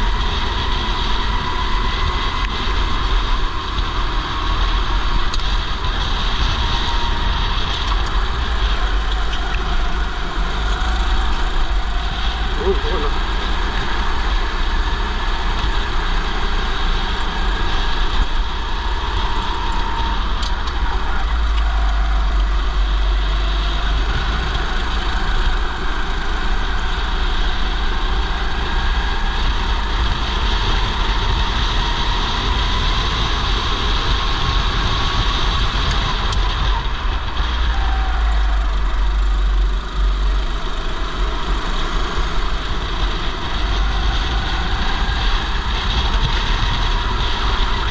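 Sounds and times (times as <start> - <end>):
kart engine running: 0.0 - 47.9
wind rumble on microphone: 0.0 - 47.9.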